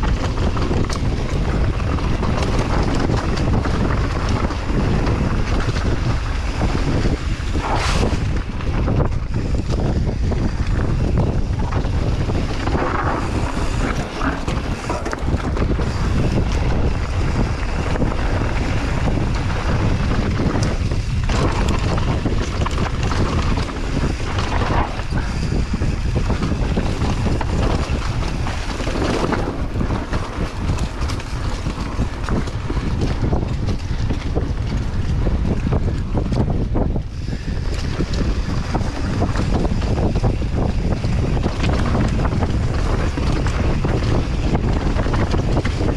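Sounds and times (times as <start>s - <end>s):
bike clattering over rough ground: 0.0s - 45.9s
wind rushing over microphone: 0.0s - 45.9s.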